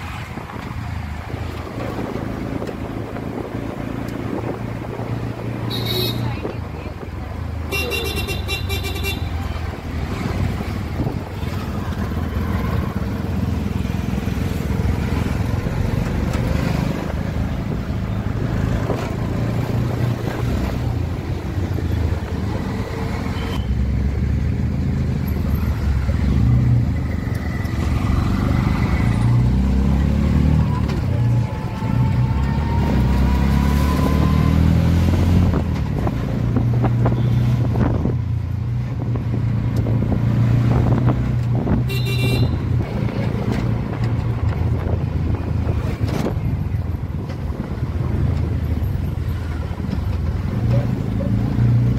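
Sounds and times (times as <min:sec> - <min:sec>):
auto-rickshaw engine running: 0:00.0 - 0:51.9
road noise: 0:00.0 - 0:51.9.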